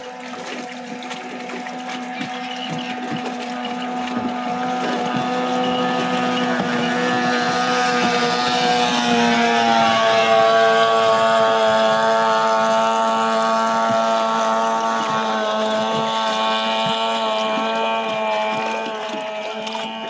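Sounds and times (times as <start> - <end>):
outboard motors droning: 0.0 - 20.0.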